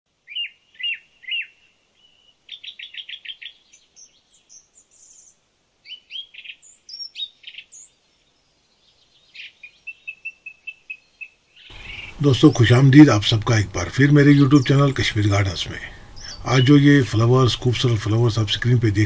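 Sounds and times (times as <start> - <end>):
songbirds chirping and singing: 0.2 - 19.0.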